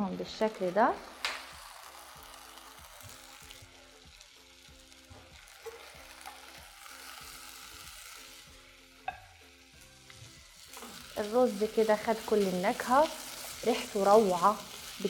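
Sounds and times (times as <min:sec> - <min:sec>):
rice sizzling in ghee: 0:00.0 - 0:15.0.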